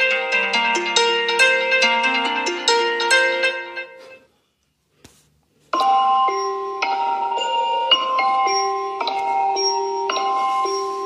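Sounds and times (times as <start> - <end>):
synthesized plucked ringtone melody: 0.0 - 4.1, 5.8 - 11.0.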